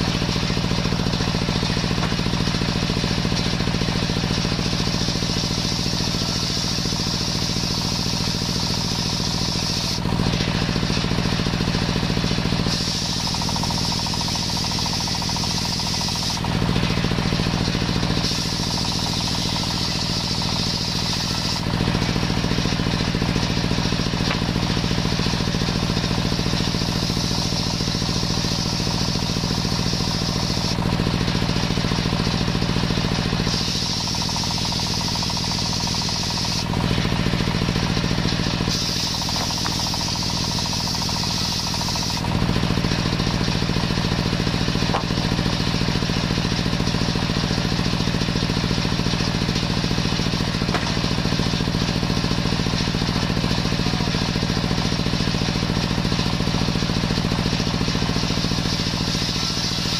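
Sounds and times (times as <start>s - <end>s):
table saw cutting wood: 0.0s - 59.9s.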